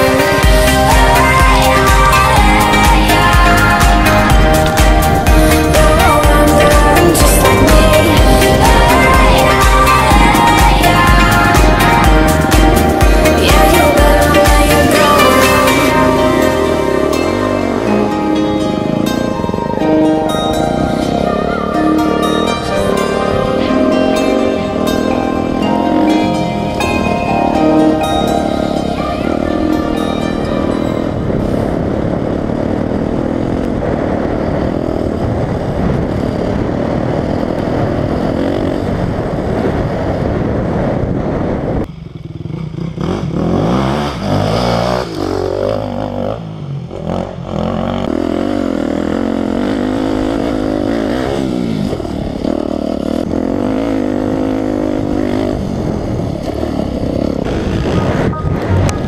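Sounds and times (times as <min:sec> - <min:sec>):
dirt bike engine revving: 0:00.0 - 0:40.8, 0:41.9 - 0:59.0.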